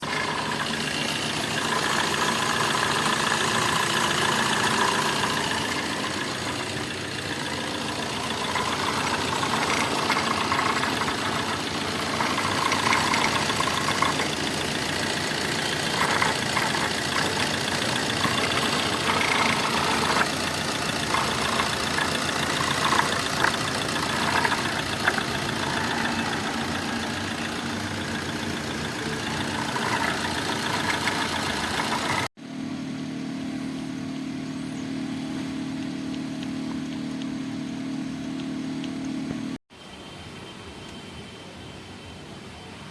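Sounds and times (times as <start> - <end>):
car engine droning: 0.0 - 39.6.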